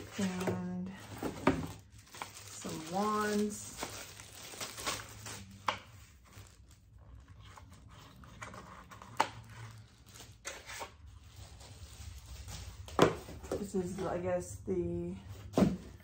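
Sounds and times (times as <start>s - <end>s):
packaging rustling: 0.0s - 13.4s.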